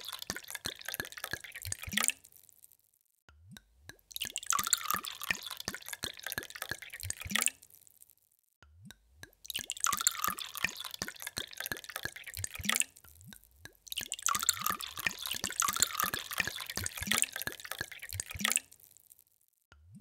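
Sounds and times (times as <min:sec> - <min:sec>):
water pouring into a glass: 0:00.0 - 0:02.4, 0:03.9 - 0:07.8, 0:09.3 - 0:19.2
water dripping: 0:00.0 - 0:20.0.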